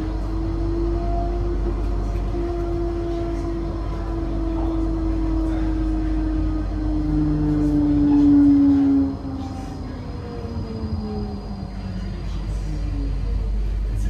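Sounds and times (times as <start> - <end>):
electric train motor whine: 0.0 - 14.0
train low rumble: 0.0 - 14.0.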